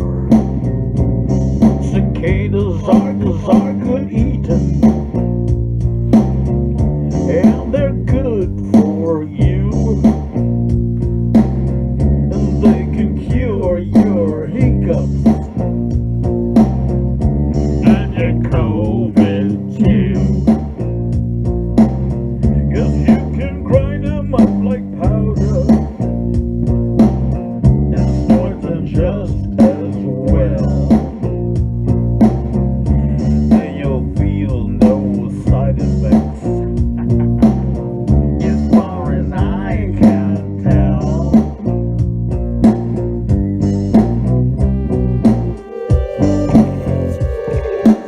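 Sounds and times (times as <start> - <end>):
blues band music: 0.0 - 48.0
guitar lead with bent notes: 0.0 - 48.0
steady beat: 0.0 - 48.0.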